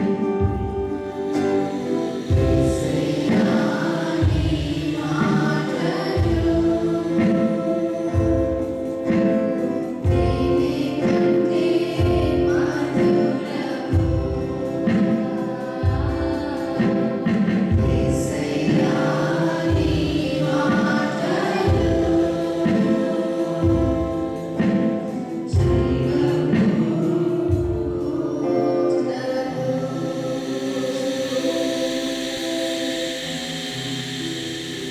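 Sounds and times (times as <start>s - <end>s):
group singing gospel music: 0.0s - 34.9s.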